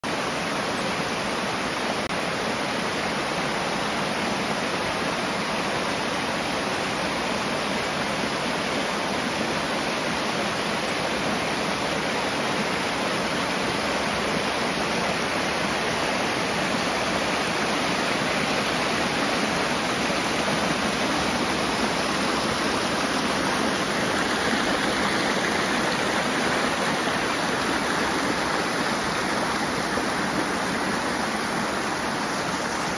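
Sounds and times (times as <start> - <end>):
stream rushing over rocks: 0.0 - 32.9.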